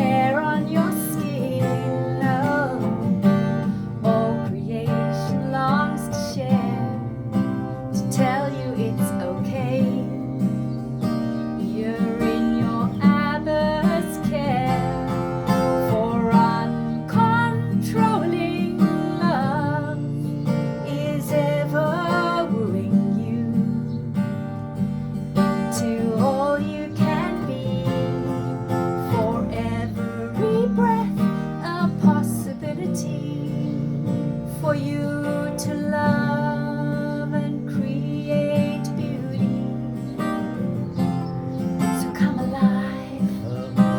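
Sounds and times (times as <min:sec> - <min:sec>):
woman singing: 0:00.0 - 0:24.5, 0:25.2 - 0:43.9
strummed acoustic guitar: 0:00.0 - 0:43.9.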